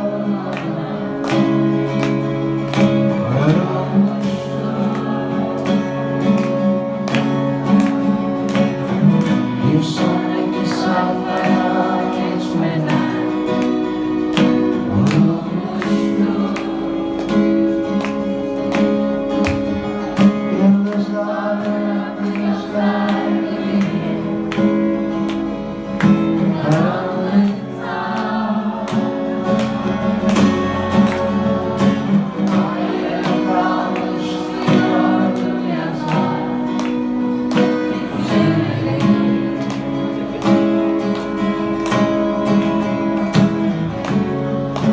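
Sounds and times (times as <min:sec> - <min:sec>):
person singing: 0:00.0 - 0:18.9, 0:19.5 - 0:44.9
live pop-rock band: 0:00.0 - 0:44.9
strummed guitar: 0:00.0 - 0:44.9.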